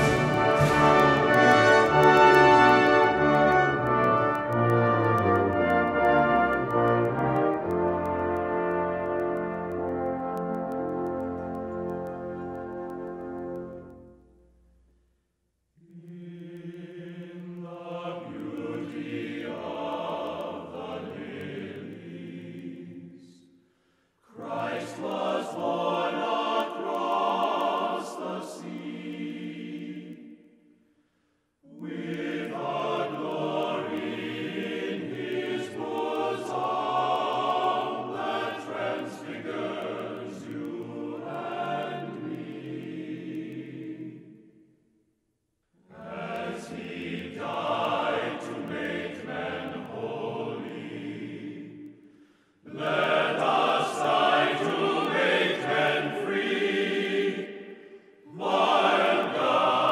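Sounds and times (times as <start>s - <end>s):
choir singing sustained chords: 0.0s - 14.9s, 15.8s - 45.0s, 45.8s - 59.9s.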